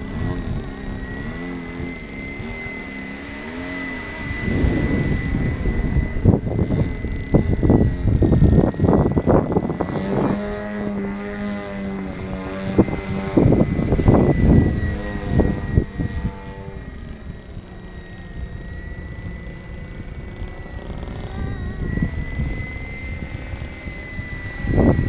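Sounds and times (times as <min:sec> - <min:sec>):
model helicopter whine: 0:00.0 - 0:25.0
wind buffeting microphone: 0:00.0 - 0:25.0.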